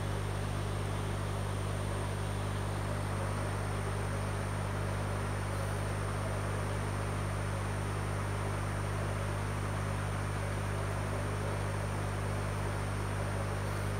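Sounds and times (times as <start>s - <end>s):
low mains hum: 0.0s - 13.9s.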